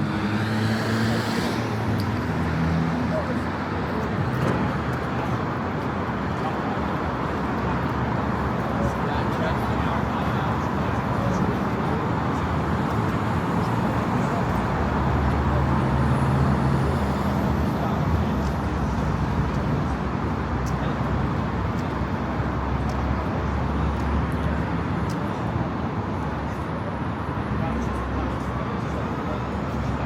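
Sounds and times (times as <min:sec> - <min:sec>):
car engines rumbling: 0:00.0 - 0:30.0.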